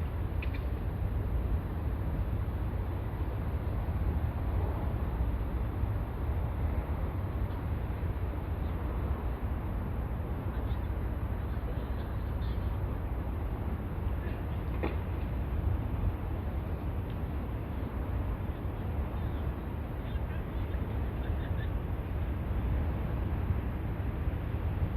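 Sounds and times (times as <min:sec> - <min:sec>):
low rumble with hiss: 0:00.0 - 0:24.9.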